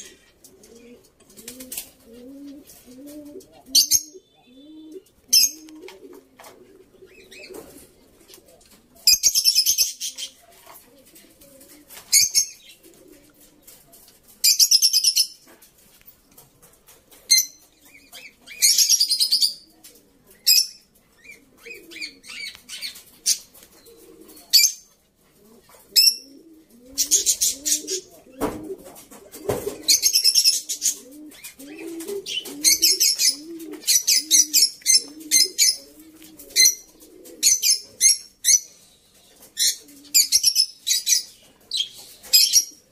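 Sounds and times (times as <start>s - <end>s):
pigeons cooing: 0.0s - 15.7s, 16.3s - 42.9s.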